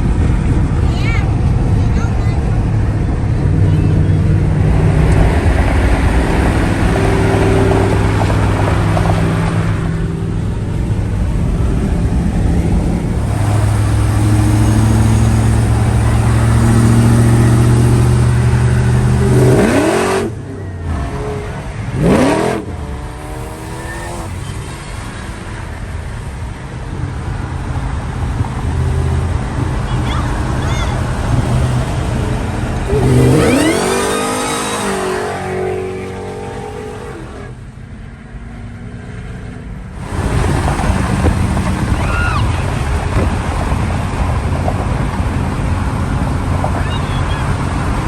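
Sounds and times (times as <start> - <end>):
car engine droning: 0.0 - 48.0.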